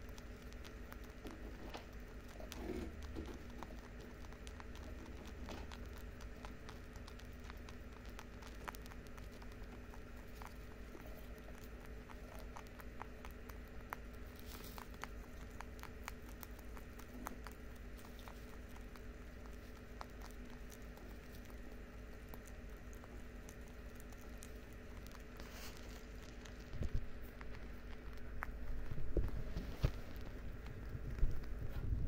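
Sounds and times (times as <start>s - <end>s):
rabbits chewing hay: 0.0s - 32.0s
steady low hum: 0.0s - 32.0s.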